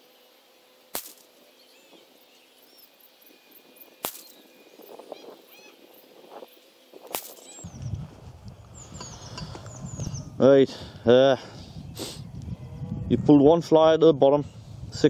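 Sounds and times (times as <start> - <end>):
small birds chirping: 0.2 - 13.5.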